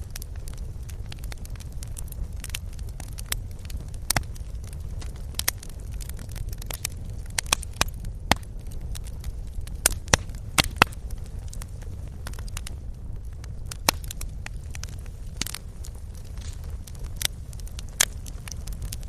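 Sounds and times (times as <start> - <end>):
bonfire crackling and popping: 0.0 - 19.0
low steady fire rumble: 0.0 - 19.0.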